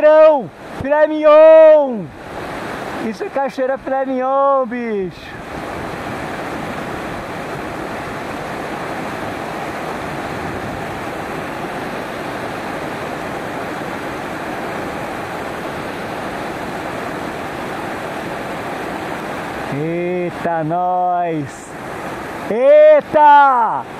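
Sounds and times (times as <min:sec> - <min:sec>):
waterfall rushing onto rocks: 0:04.4 - 0:23.9.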